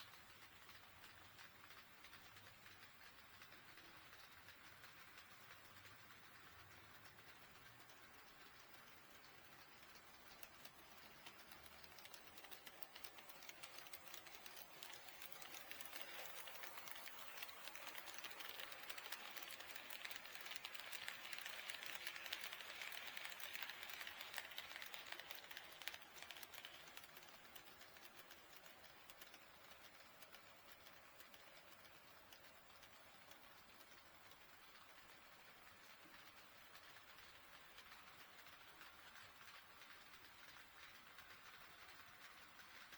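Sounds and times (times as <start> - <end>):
model train wheels clicking: 0.0 - 42.9.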